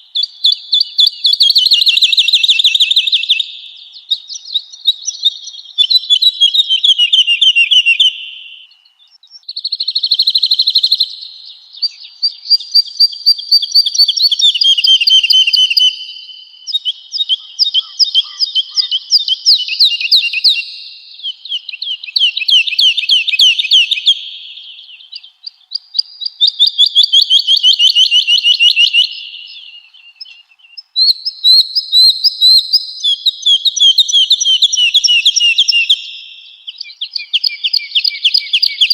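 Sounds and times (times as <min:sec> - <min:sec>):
bird singing trilled phrases: 0:00.0 - 0:38.9.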